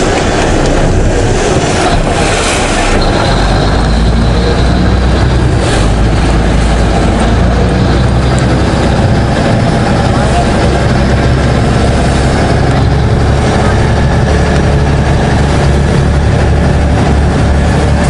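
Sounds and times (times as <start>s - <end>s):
ferry engine rumbling: 0.0s - 18.0s
water rushing: 0.0s - 18.0s
wind: 0.0s - 18.0s.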